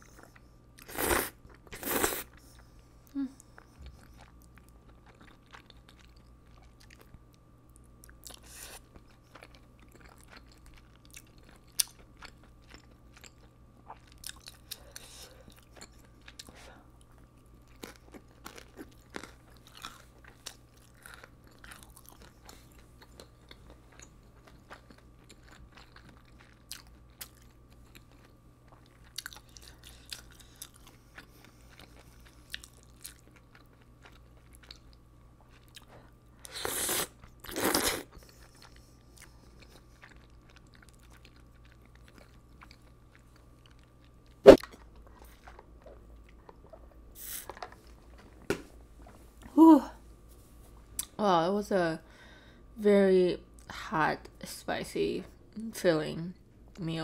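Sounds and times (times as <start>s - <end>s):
person chewing food: 0.0s - 49.5s
faint steady hum: 0.0s - 57.0s.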